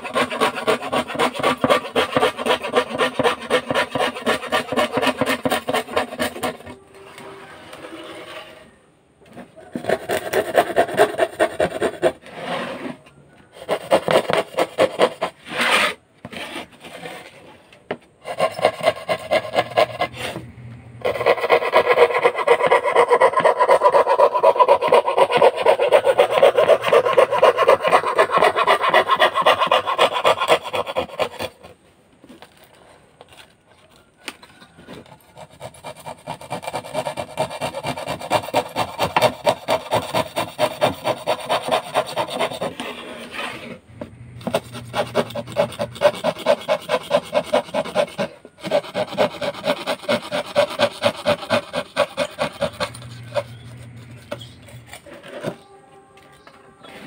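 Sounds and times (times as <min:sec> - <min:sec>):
saw cutting plywood: 0:00.0 - 0:17.5, 0:18.2 - 0:31.8, 0:34.2 - 0:55.8.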